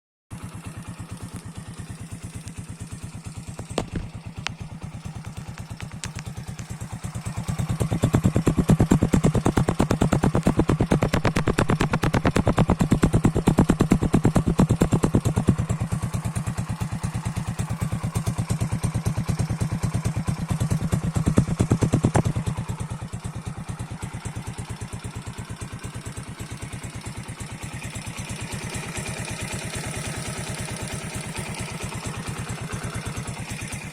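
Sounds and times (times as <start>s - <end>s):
motorcycle engine idling and revving: 0.3s - 33.9s.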